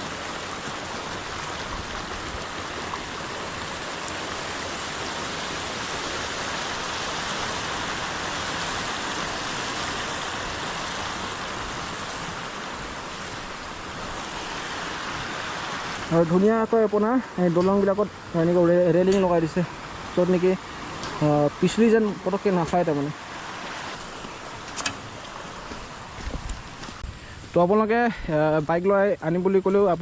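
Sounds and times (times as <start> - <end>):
stream water rushing: 0.0 - 27.2.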